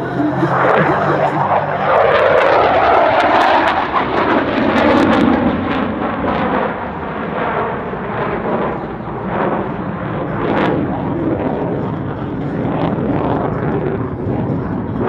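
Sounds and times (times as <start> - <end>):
jet engine roar passing: 0.0 - 15.0.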